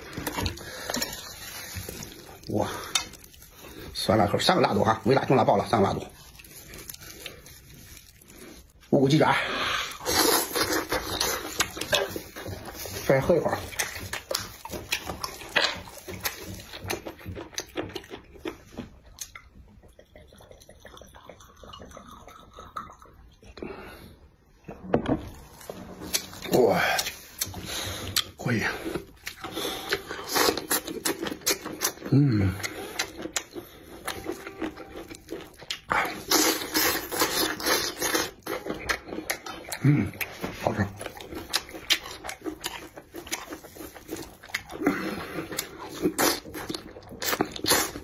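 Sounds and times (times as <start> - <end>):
wet chewing and sucking: 0.0 - 8.9, 9.8 - 48.0.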